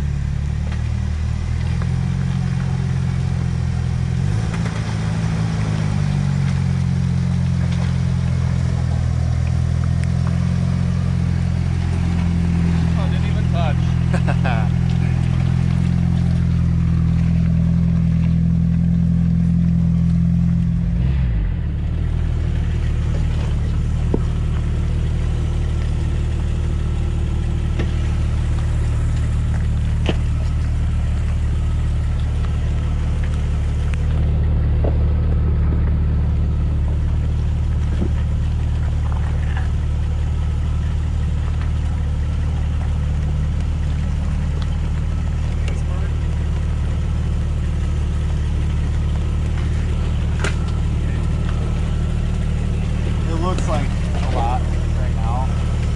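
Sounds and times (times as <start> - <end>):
car engine running: 0.0 - 55.9.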